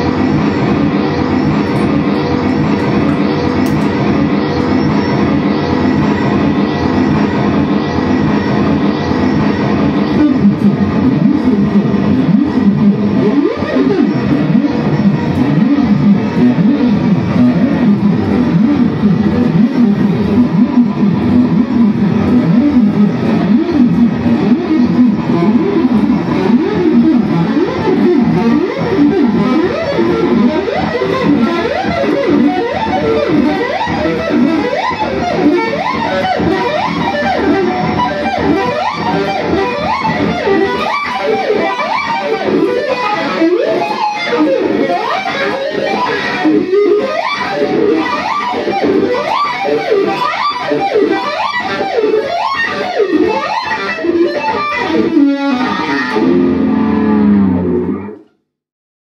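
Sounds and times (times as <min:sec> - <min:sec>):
electric guitar playing: 0:00.0 - 0:58.5.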